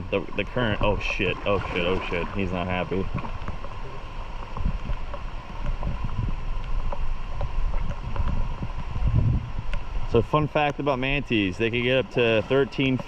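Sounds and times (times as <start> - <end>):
low rumbling buffets: 0.0 - 13.0
water sloshing in river current: 0.0 - 13.0.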